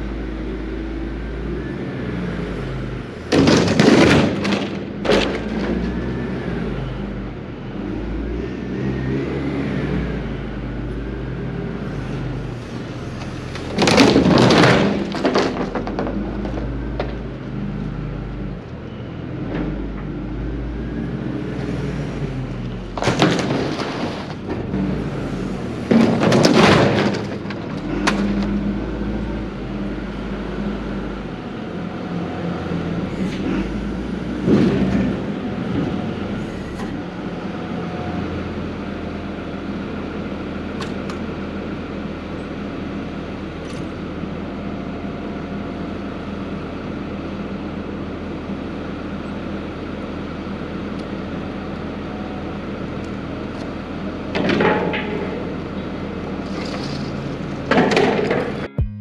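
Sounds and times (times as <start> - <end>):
loader diesel engine running: 9.9 - 59.0.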